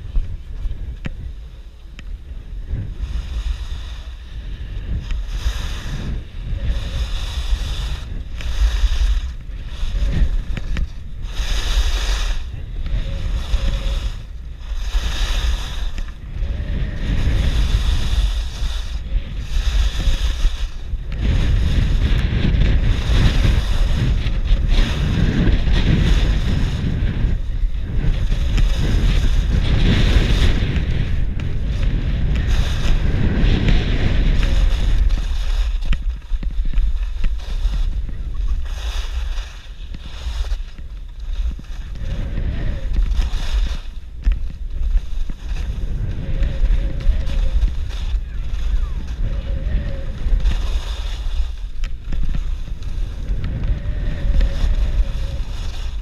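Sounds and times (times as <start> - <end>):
low rumble: 0.0 - 56.0
skis hissing and scraping on snow: 0.0 - 56.0
wind buffeting microphone: 0.0 - 56.0.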